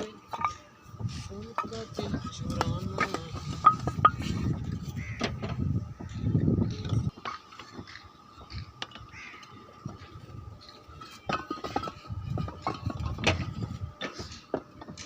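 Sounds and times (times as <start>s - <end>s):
roof tiles clinking and knocking: 0.0s - 0.6s, 1.4s - 15.0s
thin steady whine: 0.0s - 15.0s.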